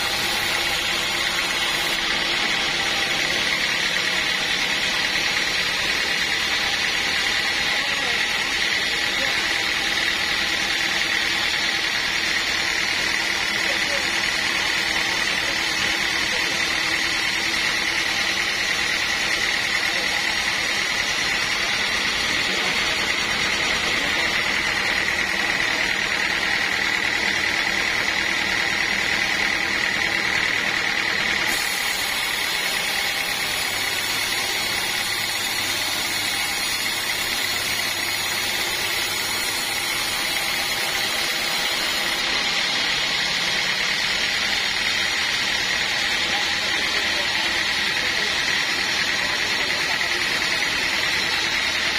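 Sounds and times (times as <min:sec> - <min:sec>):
band saw blade cutting wood: 0:00.0 - 0:51.9.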